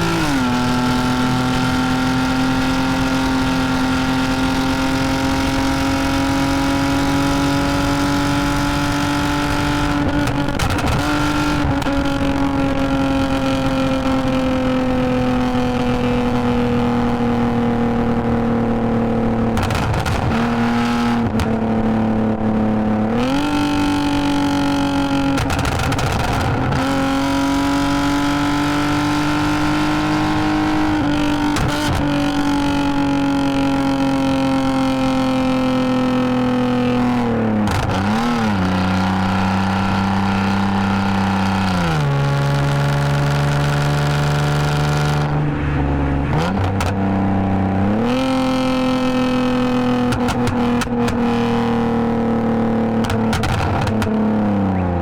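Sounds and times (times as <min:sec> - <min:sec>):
car engine and exhaust while driving: 0:00.0 - 0:55.0.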